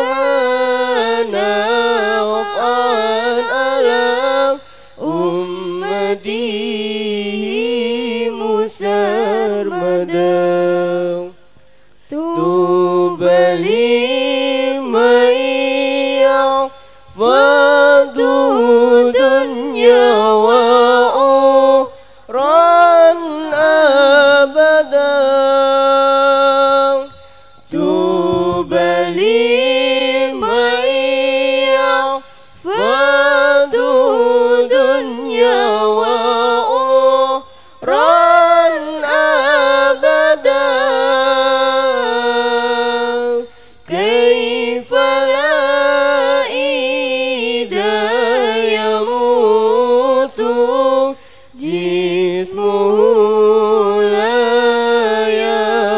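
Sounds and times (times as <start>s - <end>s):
woman singing unaccompanied chant: 0.0s - 11.4s, 12.1s - 55.9s.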